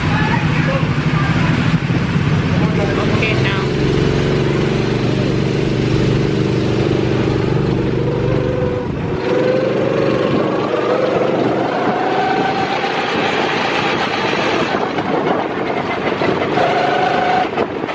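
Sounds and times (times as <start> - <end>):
go-kart engines accelerating: 0.0 - 17.9.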